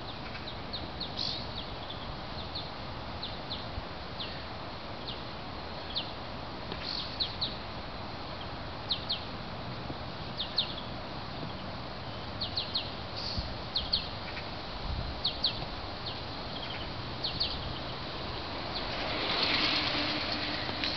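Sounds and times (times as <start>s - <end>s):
small birds chirping: 0.0s - 9.3s, 10.2s - 14.6s, 15.2s - 19.8s
outdoor hiss: 0.0s - 20.9s.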